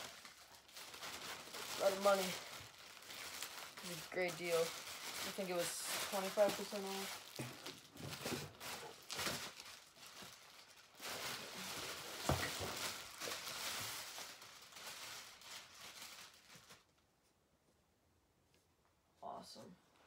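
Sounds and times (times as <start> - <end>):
plastic wrapping crinkling: 0.0 - 17.1.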